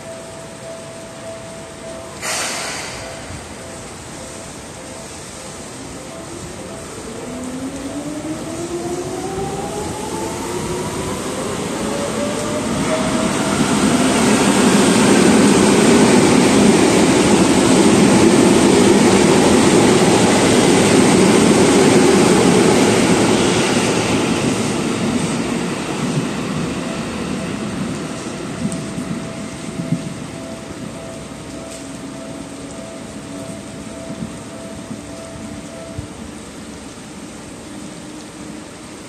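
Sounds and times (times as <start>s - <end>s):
train wheel and body noise: 2.2s - 39.0s.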